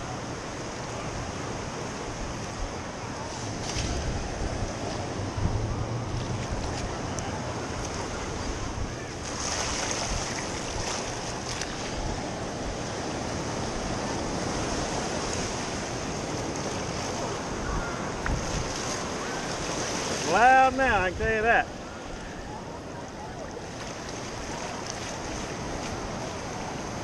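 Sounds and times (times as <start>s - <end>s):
surf washing over sand: 0.0s - 27.0s
wind buffeting microphone: 2.0s - 27.0s.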